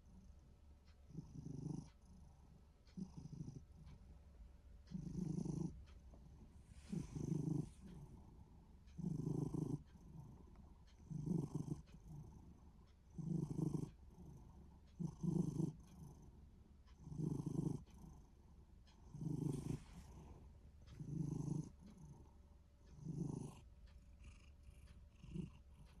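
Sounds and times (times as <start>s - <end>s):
cat rumbling purr: 0.0s - 4.2s, 4.8s - 26.0s.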